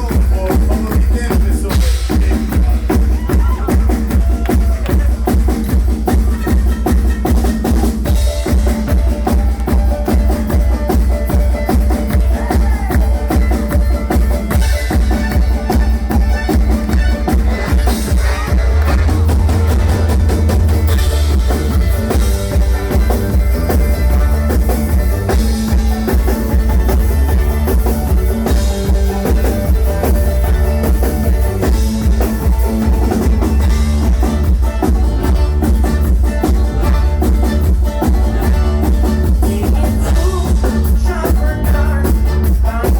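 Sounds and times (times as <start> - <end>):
drum kit beat: 0.0 - 42.9
heavy bass line: 0.0 - 42.9
live band playing rock song: 0.0 - 42.9.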